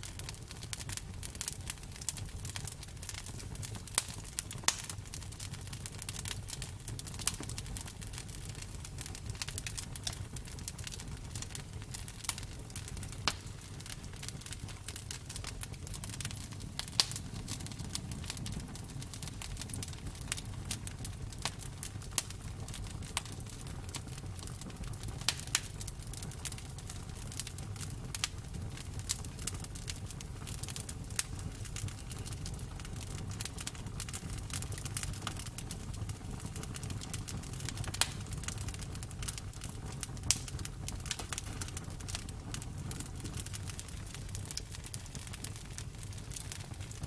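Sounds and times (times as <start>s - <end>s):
low rumble of flames: 0.0s - 47.0s
wood crackling and popping: 0.0s - 47.0s.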